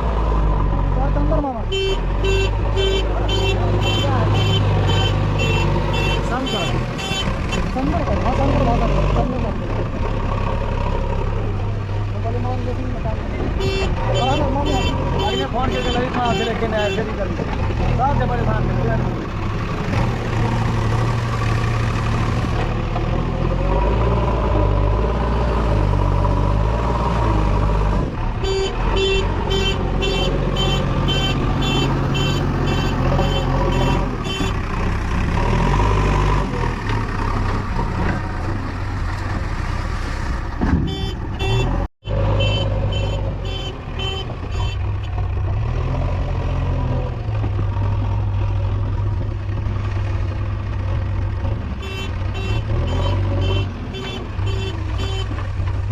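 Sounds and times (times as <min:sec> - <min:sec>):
backhoe diesel engine droning: 0:00.0 - 0:55.9.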